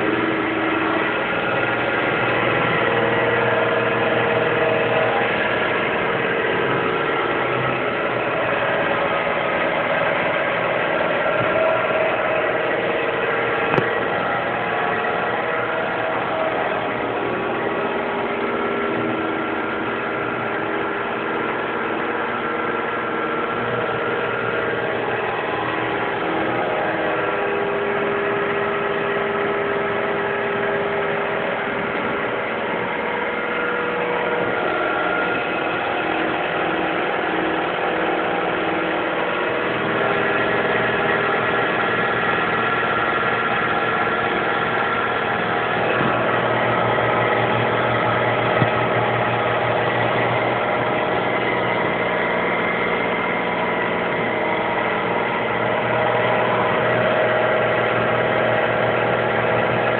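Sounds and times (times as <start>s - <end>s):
stepper motors whining: 0.0s - 59.9s.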